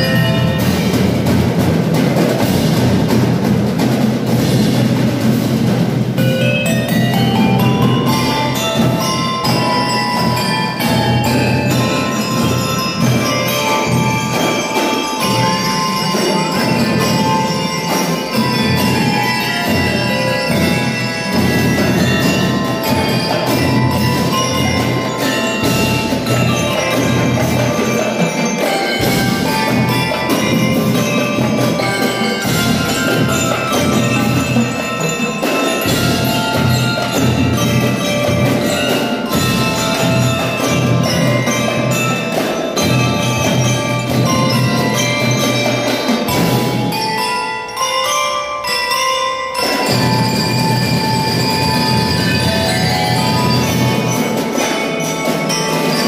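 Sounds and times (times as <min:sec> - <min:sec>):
marching drums beat: 0:00.0 - 0:47.2, 0:49.6 - 0:56.0
bell lyres ringing melody: 0:00.0 - 0:56.0.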